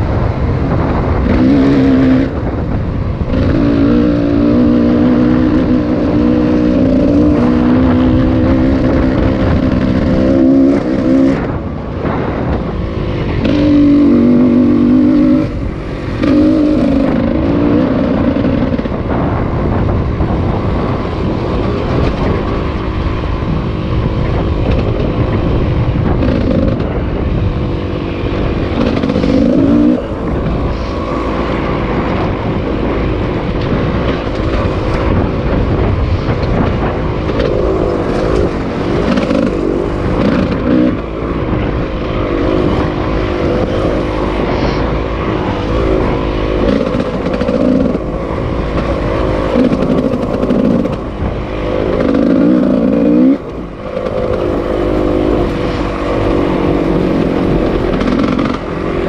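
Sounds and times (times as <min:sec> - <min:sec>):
car engine revving: 0:00.0 - 0:59.0
road noise: 0:00.0 - 0:59.0
wind noise: 0:00.0 - 0:59.0.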